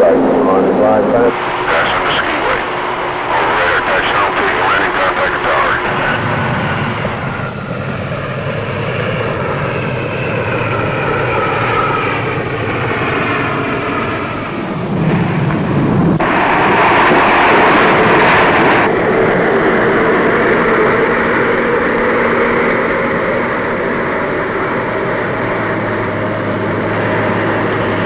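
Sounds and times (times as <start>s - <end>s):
aircraft engines: 0.0s - 28.0s
rush of noise: 0.0s - 28.0s.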